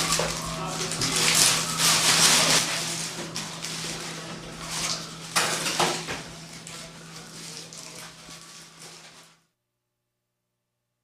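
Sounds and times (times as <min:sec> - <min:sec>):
objects clattering in a refrigerator: 0:00.0 - 0:09.3
steady low hum: 0:00.0 - 0:09.3.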